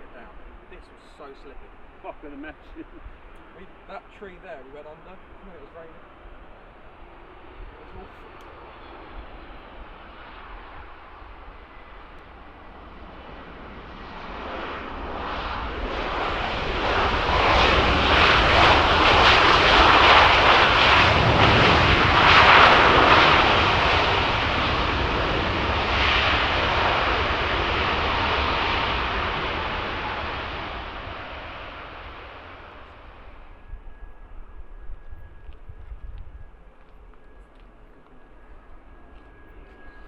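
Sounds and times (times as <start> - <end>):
jet engines passing: 0.0 - 40.0.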